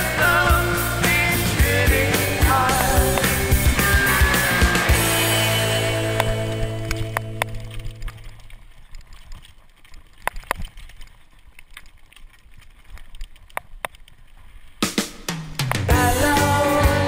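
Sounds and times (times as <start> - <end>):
bike tyre and trail noise: 0.0 - 16.4
bike rattling: 0.0 - 17.0
bike clicks and knocks over bumps: 0.2 - 15.9.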